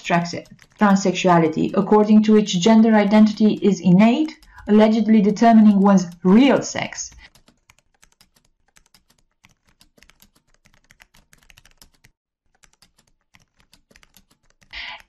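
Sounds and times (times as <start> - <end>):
keyboard typing: 0.0 - 15.0.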